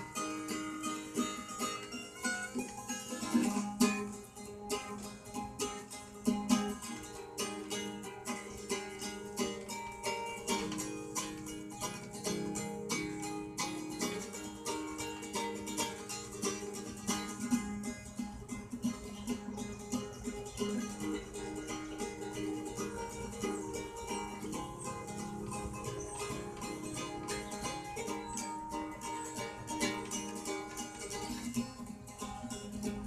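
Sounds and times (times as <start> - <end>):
guitar picking: 0.0 - 33.0.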